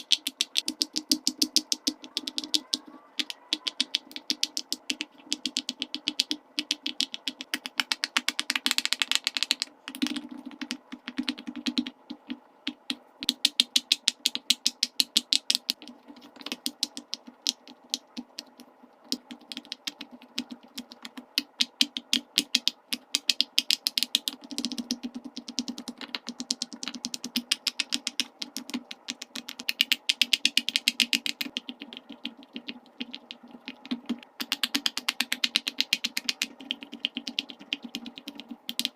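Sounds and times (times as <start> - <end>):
pop-it toy bubbles popping: 0.0 - 15.8, 16.4 - 38.9.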